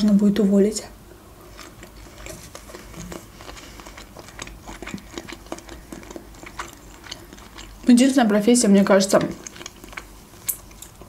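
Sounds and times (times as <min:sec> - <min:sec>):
wet chewing mouth clicks: 0:01.4 - 0:11.0.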